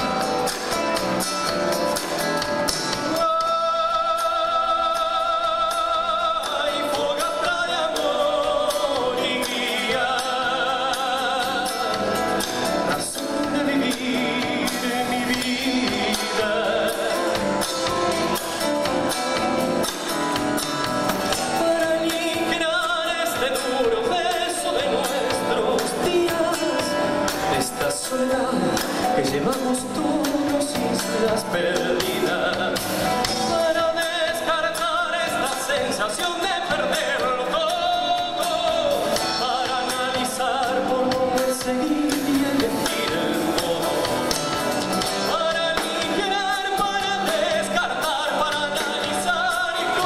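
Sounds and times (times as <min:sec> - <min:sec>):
electric bass: 0:00.0 - 0:22.8, 0:24.5 - 0:50.0
acoustic guitars: 0:00.0 - 0:50.0
drum kit: 0:00.0 - 0:50.0.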